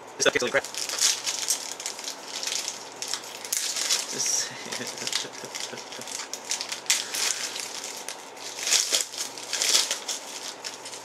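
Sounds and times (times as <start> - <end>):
packaging crinkling and rustling: 0.6 - 11.0.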